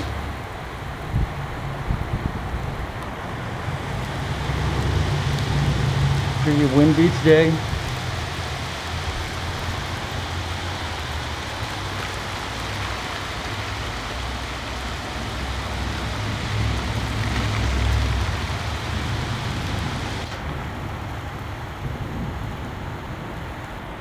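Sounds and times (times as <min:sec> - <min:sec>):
gusting wind rumble: 0:00.0 - 0:24.0
heavy rain falling: 0:00.0 - 0:24.0.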